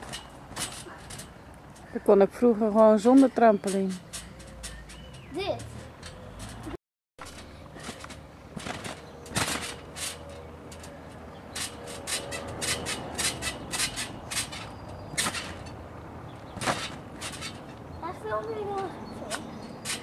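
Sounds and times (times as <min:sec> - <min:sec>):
trampoline creaking and clicking: 0:00.0 - 0:20.0.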